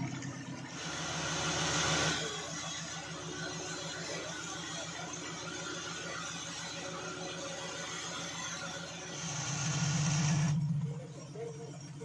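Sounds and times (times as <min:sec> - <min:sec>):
vehicle engine running and revving: 0:00.0 - 0:12.0.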